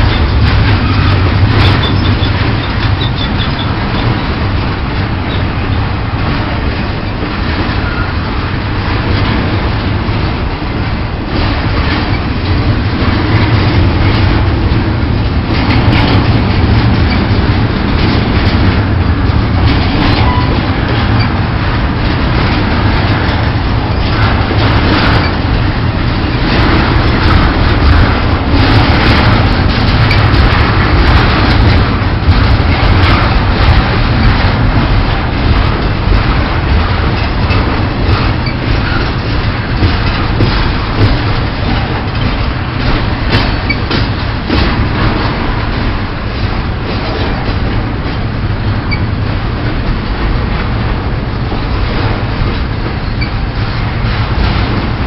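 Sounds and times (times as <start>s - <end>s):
train rumbling by: 0.0s - 55.0s
wheels clicking over rail joints: 0.0s - 55.0s.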